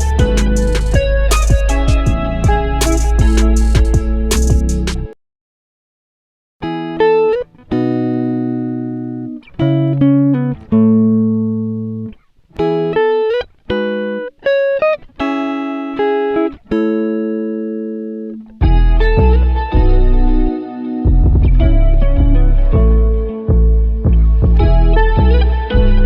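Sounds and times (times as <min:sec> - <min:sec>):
plucked-string melody: 0:00.0 - 0:05.1, 0:06.6 - 0:26.0.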